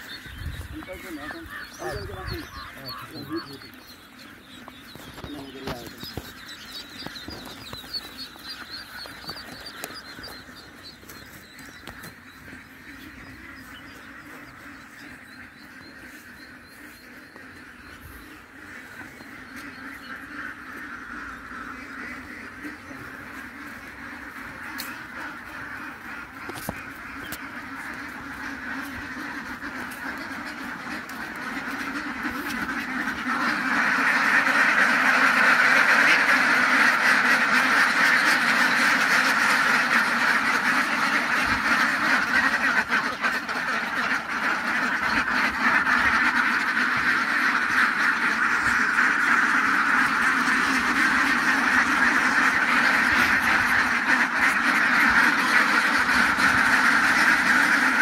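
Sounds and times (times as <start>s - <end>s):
flock of ducks quacking: 0.0s - 58.0s.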